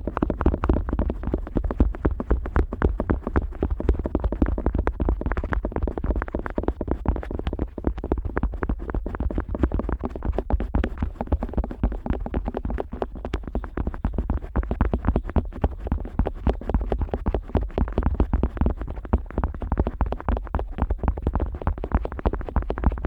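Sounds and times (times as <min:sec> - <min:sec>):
scratching on microphone ear: 0:00.0 - 0:23.0.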